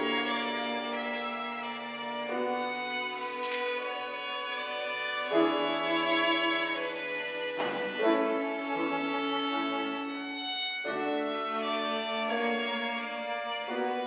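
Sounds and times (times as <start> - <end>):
cello: 0.0 - 14.0
violin: 0.0 - 14.0.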